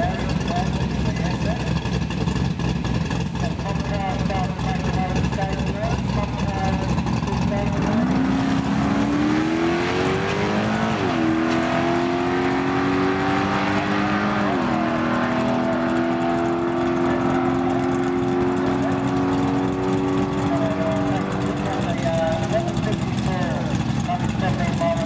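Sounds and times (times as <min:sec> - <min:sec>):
car engine at full throttle: 0:00.0 - 0:25.0.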